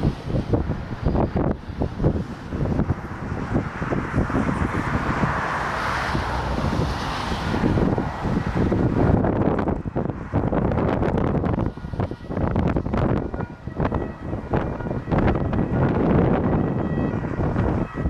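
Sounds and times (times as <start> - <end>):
airliner engine noise: 0.0 - 18.0
wind buffeting microphone: 0.0 - 18.0.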